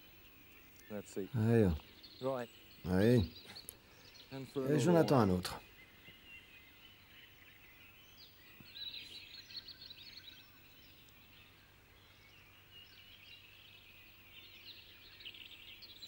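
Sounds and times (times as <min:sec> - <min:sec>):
birds twittering: 0:00.0 - 0:16.0.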